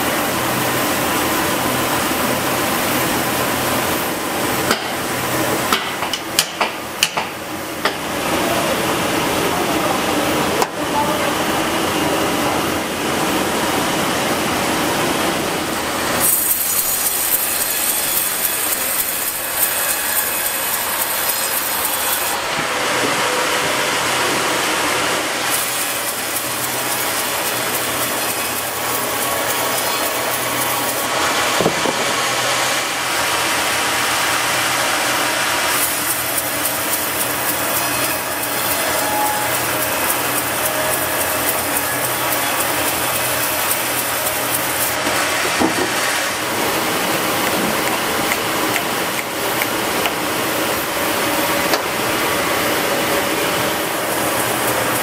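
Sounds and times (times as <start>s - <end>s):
machinery hum: 0.0s - 55.0s.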